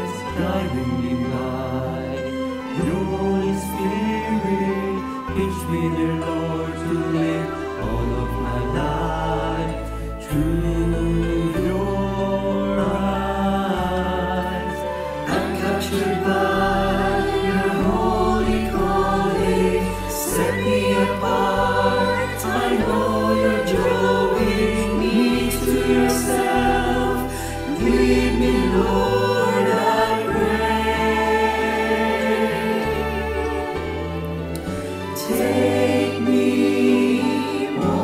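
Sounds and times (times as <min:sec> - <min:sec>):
choir singing in harmony: 0:00.0 - 0:38.0
instrumental accompaniment: 0:00.0 - 0:38.0.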